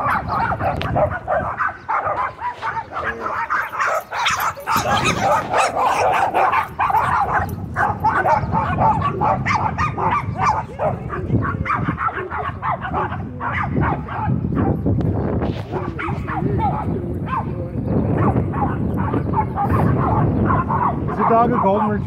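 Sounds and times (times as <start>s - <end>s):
dogs barking and yipping: 0.0s - 22.0s.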